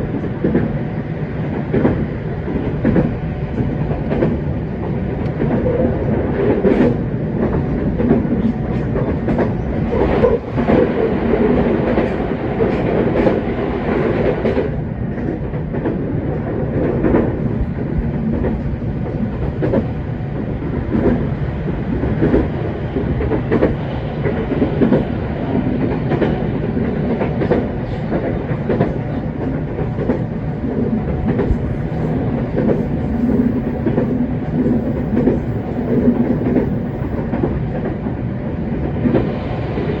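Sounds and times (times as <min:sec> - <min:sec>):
train running rumble: 0:00.0 - 0:40.0.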